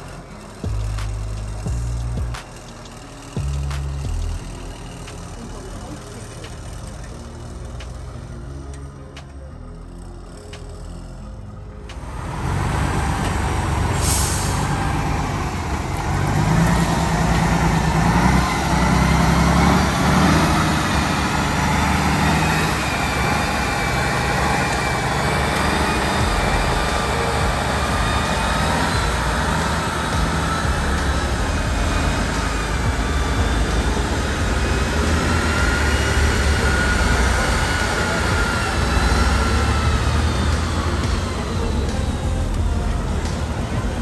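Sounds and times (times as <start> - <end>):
truck diesel engine running hard: 0.0 - 44.0.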